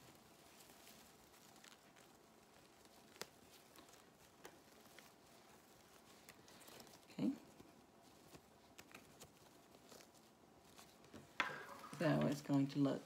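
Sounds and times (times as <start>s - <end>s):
soft clicks and rustles: 0.0s - 13.0s.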